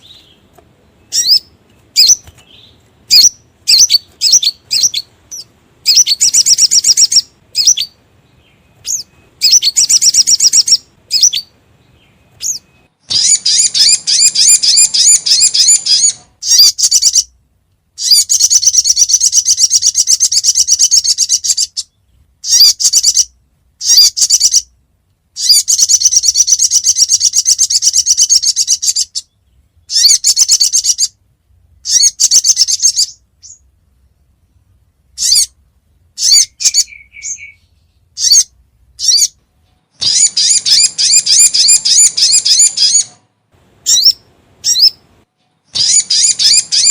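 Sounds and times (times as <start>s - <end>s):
bird chirping trills: 0.0s - 17.4s, 18.0s - 46.9s.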